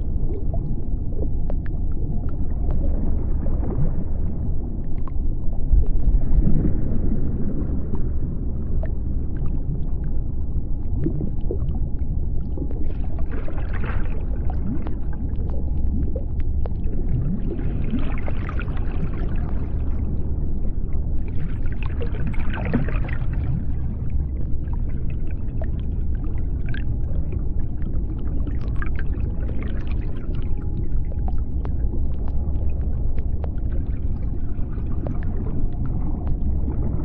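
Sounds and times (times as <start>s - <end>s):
underwater low rumble: 0.0s - 37.0s.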